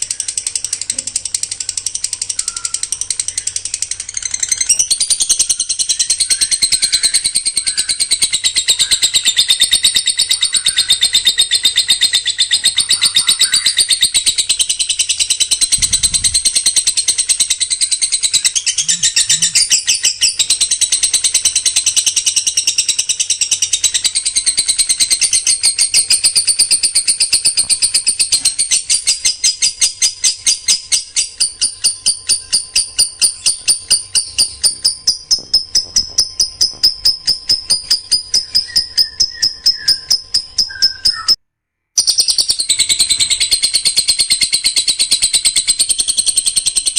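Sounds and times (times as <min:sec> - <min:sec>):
songbird singing rapid high notes: 0:00.0 - 0:41.4.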